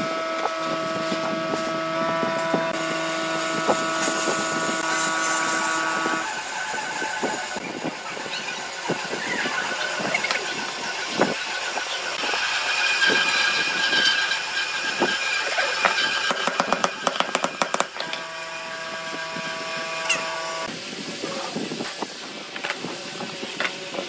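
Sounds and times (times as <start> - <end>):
steady hum: 0.0 - 21.7.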